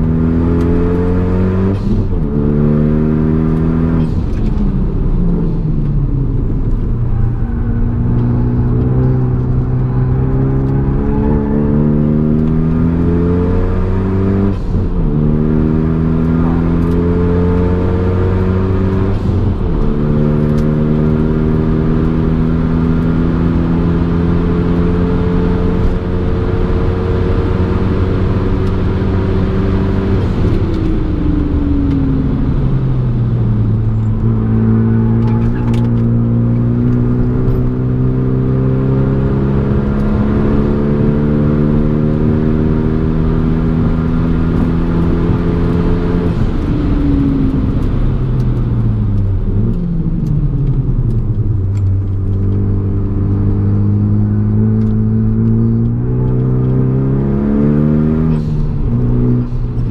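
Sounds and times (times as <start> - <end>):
car engine under hard driving: 0.0 - 59.9.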